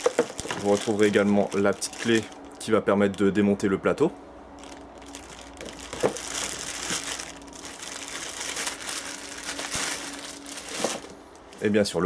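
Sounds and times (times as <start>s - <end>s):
plastic bag crinkling: 0.0s - 3.3s, 4.6s - 11.7s.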